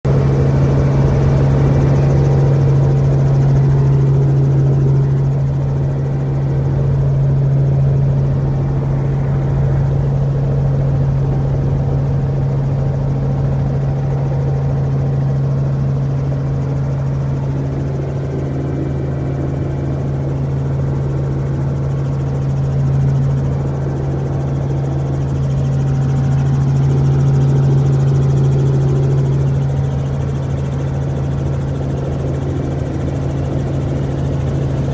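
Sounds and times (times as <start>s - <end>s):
helicopter drone: 0.1s - 34.9s.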